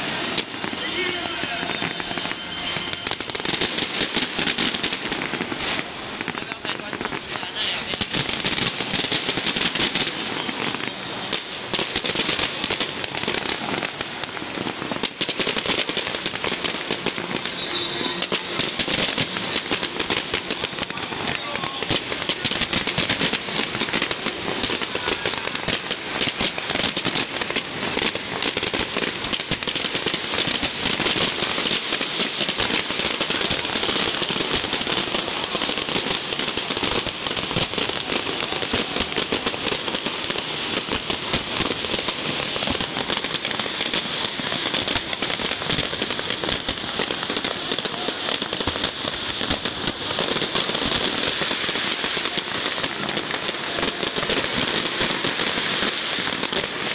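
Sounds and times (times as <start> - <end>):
fireworks crackling: 0.0 - 56.9.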